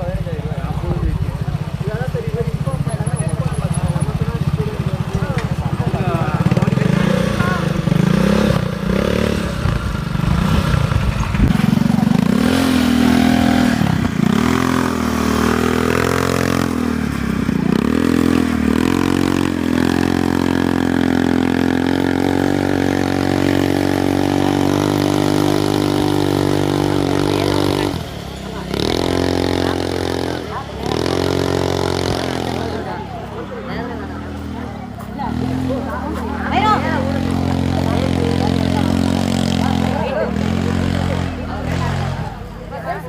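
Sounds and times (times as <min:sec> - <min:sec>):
engine revving: 0:01.5 - 0:43.0.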